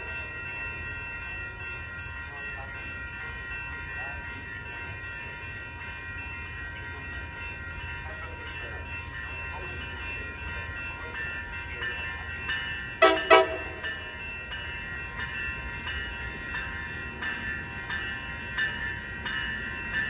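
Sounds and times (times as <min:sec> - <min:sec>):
train rumble: 0:00.0 - 0:20.0
warning bells ringing: 0:00.0 - 0:20.0.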